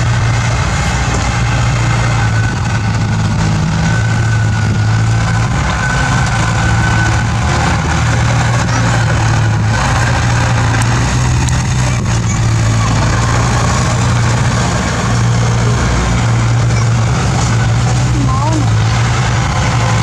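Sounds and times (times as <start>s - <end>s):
bulldozer diesel engine running: 0.0s - 20.0s
thin whine: 0.0s - 20.0s.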